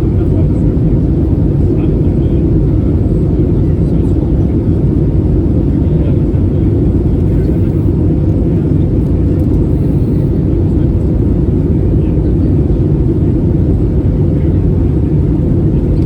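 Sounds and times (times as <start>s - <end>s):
airplane cabin engine rumble: 0.0s - 16.0s.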